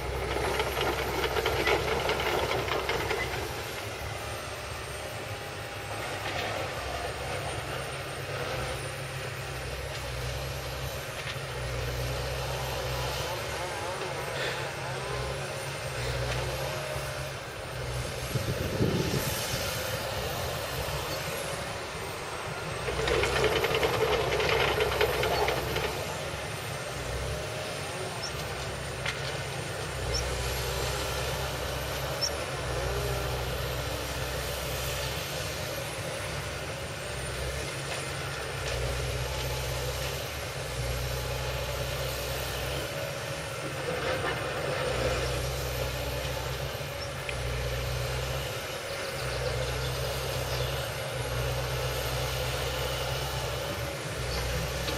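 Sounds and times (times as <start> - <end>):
excavator diesel engine under load: 0.0 - 54.9.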